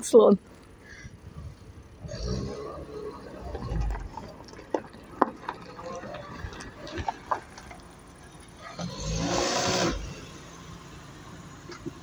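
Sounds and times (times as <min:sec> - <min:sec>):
car engine running: 0:00.4 - 0:12.0.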